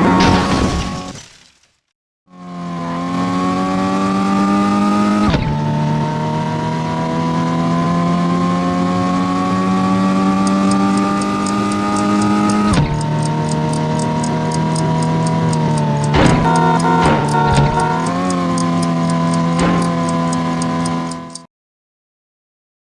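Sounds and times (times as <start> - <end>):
car engine accelerating hard: 2.3 - 21.4.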